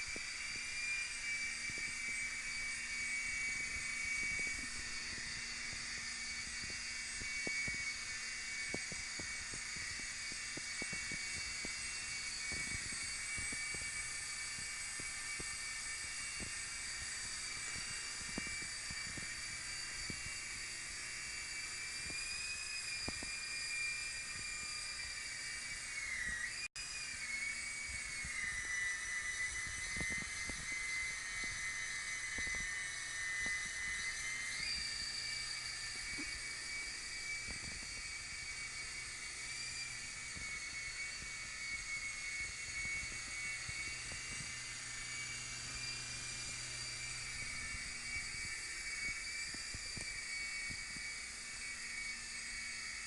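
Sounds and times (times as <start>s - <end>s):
rc helicopter high-pitched whine: 0.0s - 53.0s.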